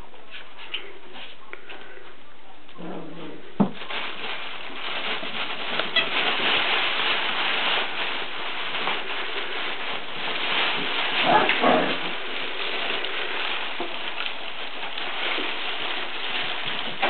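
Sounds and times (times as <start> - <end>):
puppy rustling in fabric tunnel: 2.8 - 17.0.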